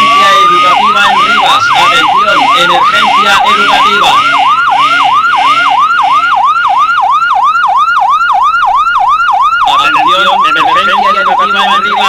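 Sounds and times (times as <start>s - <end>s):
electronic siren yelping: 0.0s - 12.0s.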